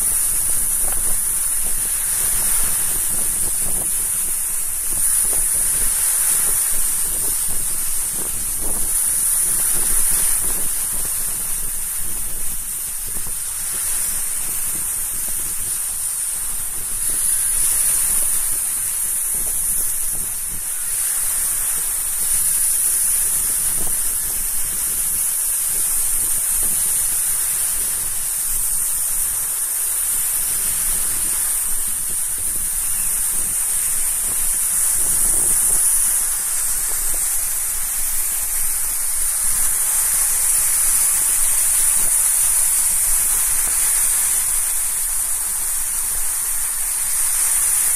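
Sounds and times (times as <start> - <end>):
waves breaking on gravel shore: 0.0 - 47.9.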